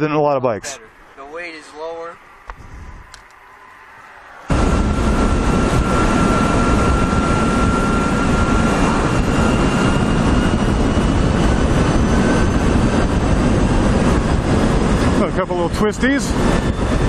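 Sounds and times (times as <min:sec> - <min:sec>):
wind rushing over microphone: 0:01.0 - 0:17.0.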